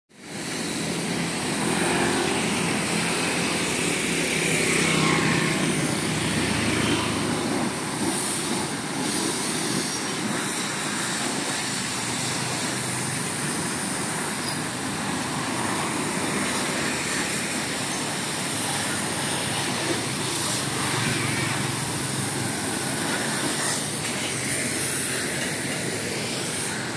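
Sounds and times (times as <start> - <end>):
motorbikes and cars passing: 0.3 - 9.0, 9.8 - 26.9.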